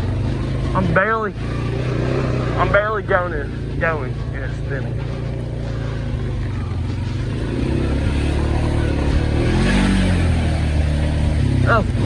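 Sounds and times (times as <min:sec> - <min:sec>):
quad bike engine under load: 0:00.0 - 0:12.0.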